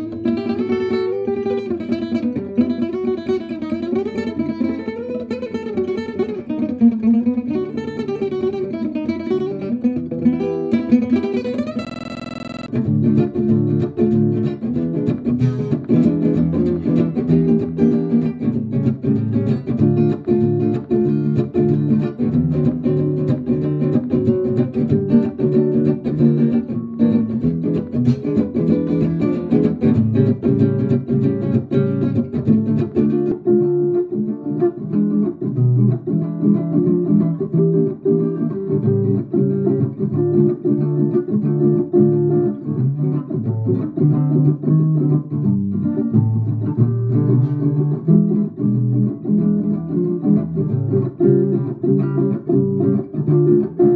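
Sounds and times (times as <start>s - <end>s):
acoustic guitar picked with plectrum: 0.0s - 53.9s.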